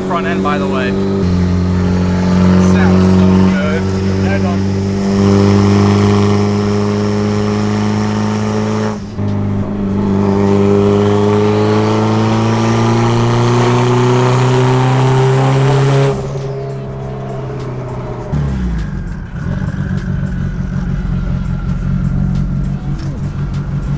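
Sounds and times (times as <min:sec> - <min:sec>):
turbo car engine revving: 0:00.0 - 0:23.9.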